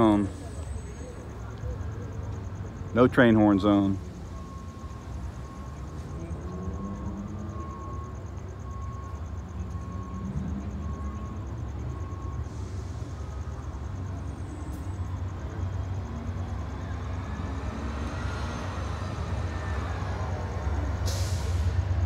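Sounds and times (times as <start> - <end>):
passenger train rumble: 0.0 - 22.0
street traffic: 0.0 - 22.0.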